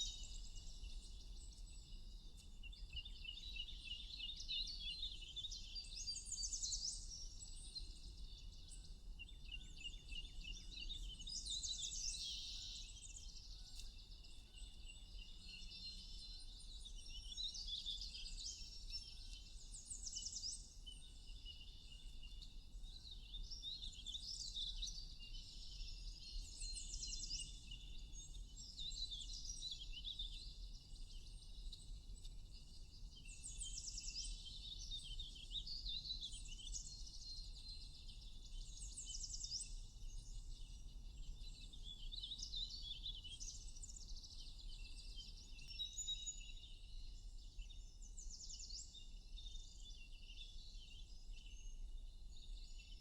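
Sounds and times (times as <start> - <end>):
songbirds chirping and trilling: 0.0 - 53.0.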